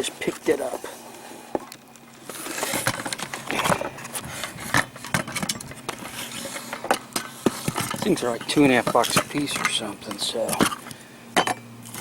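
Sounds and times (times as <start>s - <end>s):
metal scraping and clicking: 2.3s - 12.0s.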